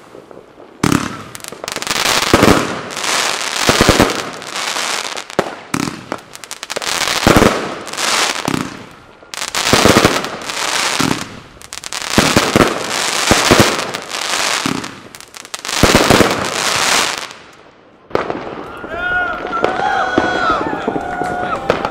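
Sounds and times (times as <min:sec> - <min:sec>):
firework crackling: 0:00.0 - 0:21.9.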